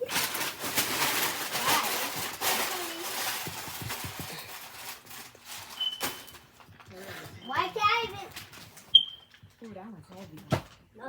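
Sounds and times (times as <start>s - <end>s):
wrapping paper crinkling: 0.0s - 9.7s.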